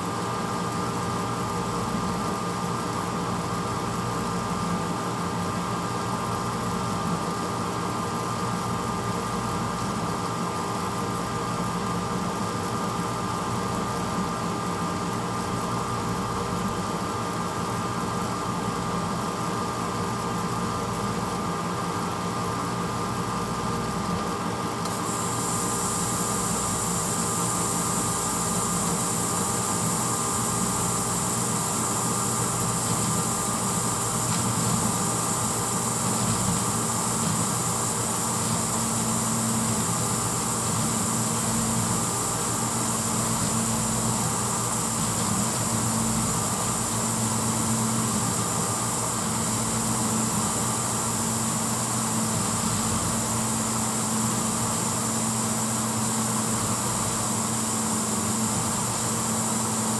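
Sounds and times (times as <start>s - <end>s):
dishwasher motor hum: 0.0s - 59.9s.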